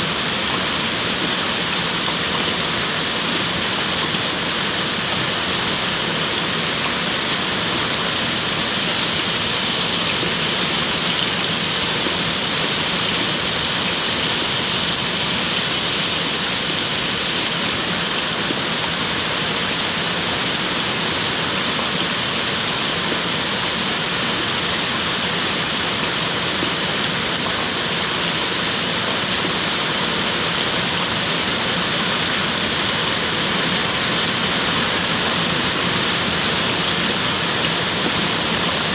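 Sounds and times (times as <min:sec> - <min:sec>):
steady rain falling: 0:00.1 - 0:38.9.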